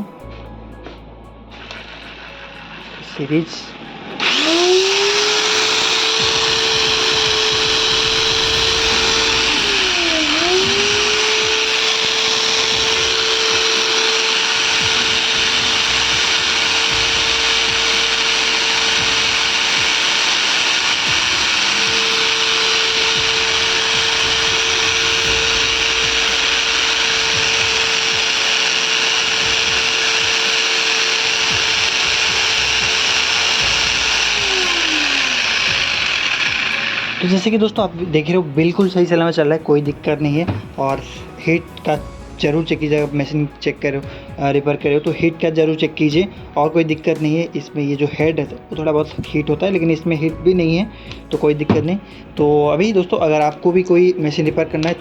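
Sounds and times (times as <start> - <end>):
angle grinder motor whine: 1.5 - 55.0.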